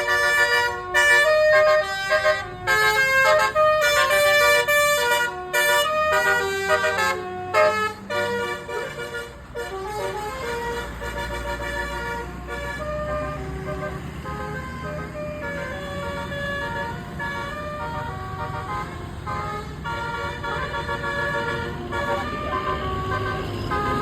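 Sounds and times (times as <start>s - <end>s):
bus air horn playing a tune: 0.0s - 24.0s.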